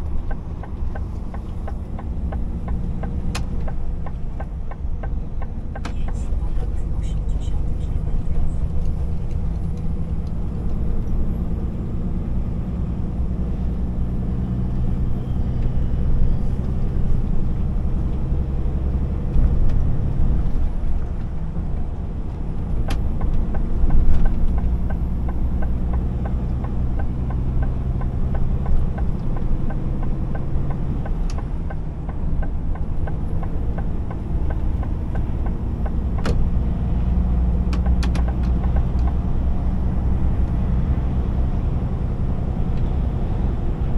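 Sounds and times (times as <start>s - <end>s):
lorry diesel engine rumble: 0.0s - 43.9s.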